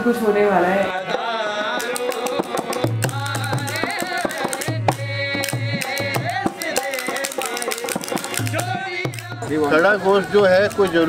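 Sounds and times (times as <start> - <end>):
harmonium: 0.0 - 11.0
men singing a wavering melody: 0.6 - 11.0
sharp clicking percussion: 1.7 - 11.0.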